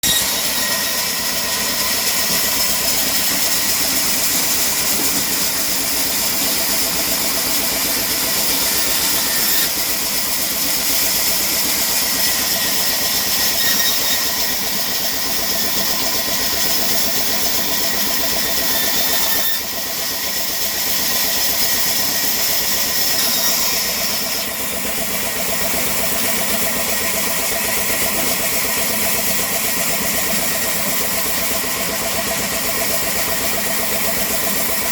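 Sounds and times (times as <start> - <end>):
sawmill machine drone: 0.0 - 34.9.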